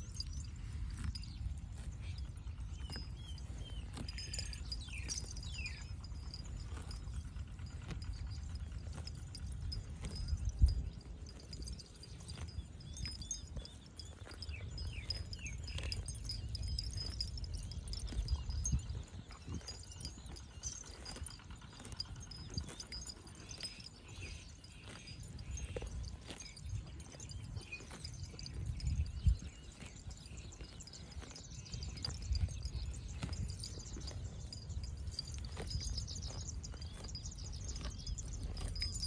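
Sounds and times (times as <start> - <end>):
cow chewing: 0.0 - 39.0
small birds chirping: 0.0 - 39.0
wind rumble on microphone: 0.0 - 39.0
cow tearing grass: 0.1 - 39.0.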